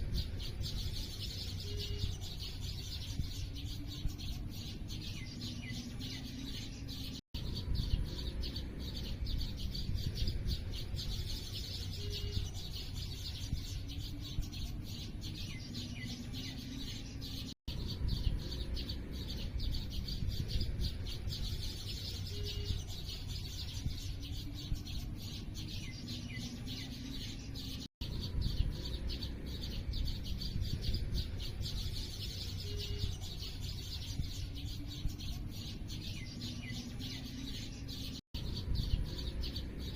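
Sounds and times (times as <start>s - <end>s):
small birds chirping: 0.0s - 39.9s
steady low rumble: 0.0s - 39.9s.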